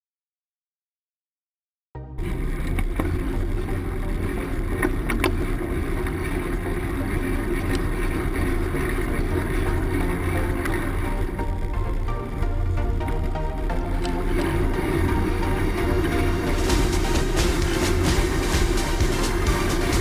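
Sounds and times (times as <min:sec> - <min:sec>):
tyre and road noise: 0:02.2 - 0:20.0.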